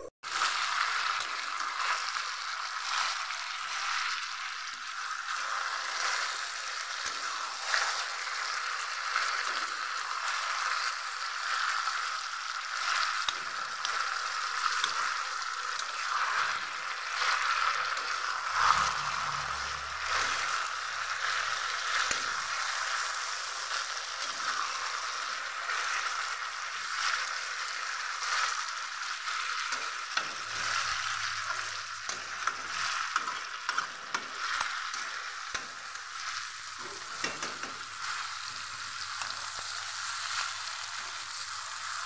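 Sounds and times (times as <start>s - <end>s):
curry sizzling in a wok: 0.0s - 42.0s
metal spatula scraping a pan: 0.3s - 42.0s.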